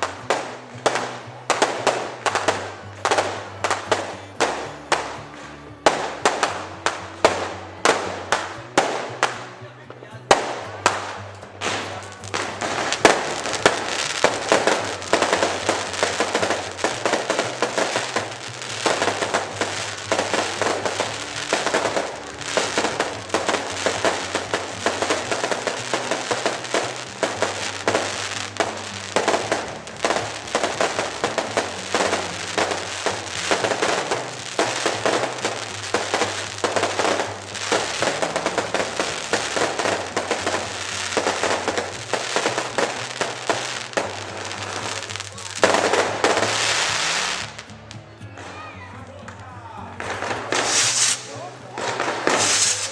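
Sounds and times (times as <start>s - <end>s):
fireworks bangs and crackling: 0.0s - 52.9s
music playing: 0.0s - 52.9s.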